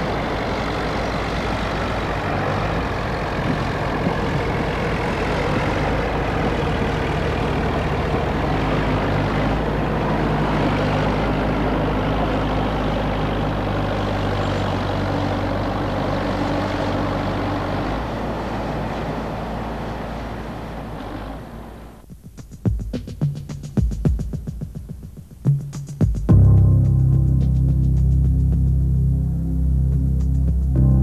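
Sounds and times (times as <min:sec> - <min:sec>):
excavator diesel engine hum: 0:00.0 - 0:22.3, 0:24.8 - 0:31.0.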